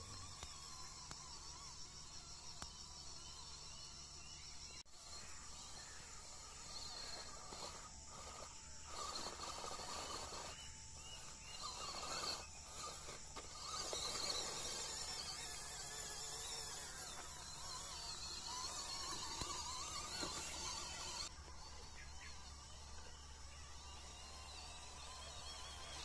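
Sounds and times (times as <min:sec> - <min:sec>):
insects hissing: 0:00.0 - 0:26.0
toy car electric motor whining: 0:00.0 - 0:26.0.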